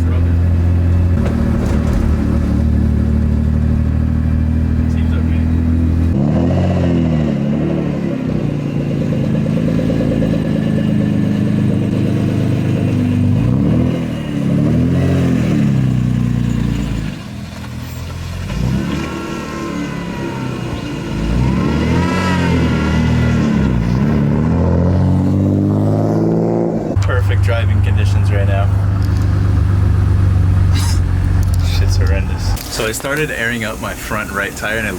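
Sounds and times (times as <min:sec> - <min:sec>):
car engine accelerating and shifting: 0:00.0 - 0:33.0.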